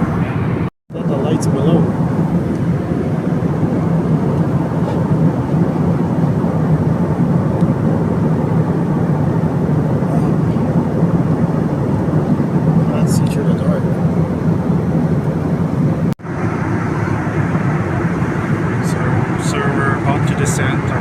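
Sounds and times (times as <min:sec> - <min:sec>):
aircraft cabin engine drone: 0:00.0 - 0:21.0.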